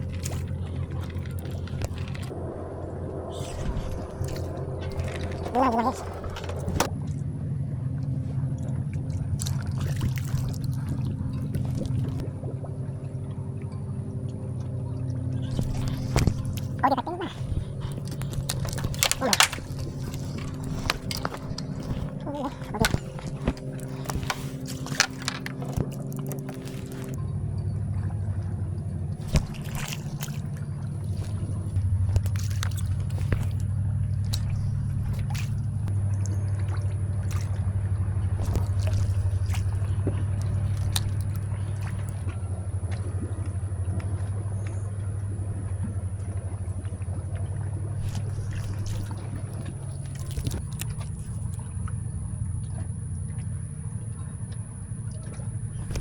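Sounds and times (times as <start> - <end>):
boat engine humming: 0.0 - 56.0
water trickling: 0.0 - 56.0.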